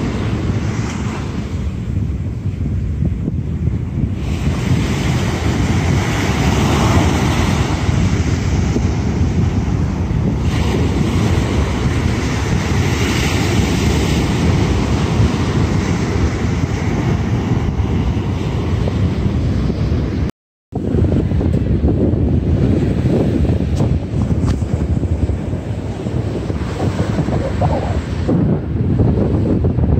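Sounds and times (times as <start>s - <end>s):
small waves washing on beach: 0.0s - 29.9s
wind buffeting microphone: 0.0s - 29.9s.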